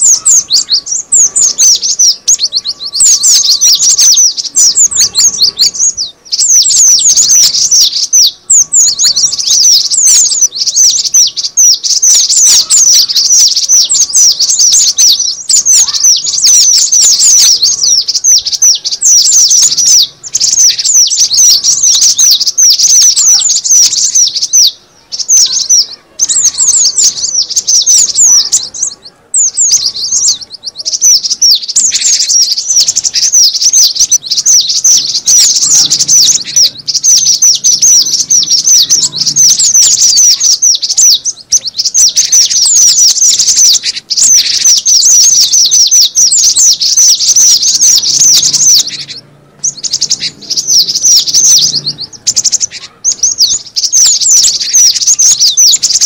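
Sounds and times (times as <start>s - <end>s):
rapid high bird chirps: 0.0s - 56.0s.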